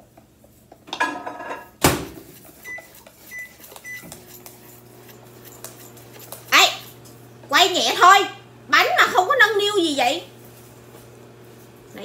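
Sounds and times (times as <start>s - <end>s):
microwave oven humming: 0.8s - 12.0s.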